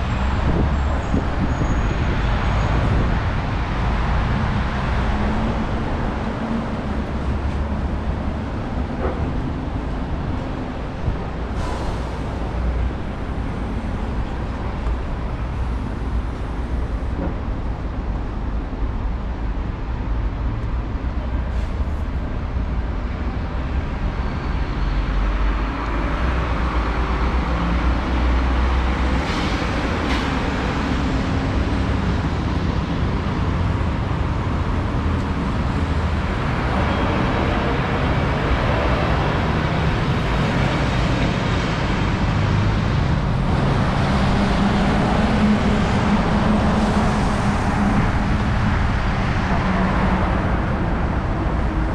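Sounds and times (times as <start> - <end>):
cars and buses passing: 0.0 - 51.9
engine and road rumble: 0.0 - 51.9.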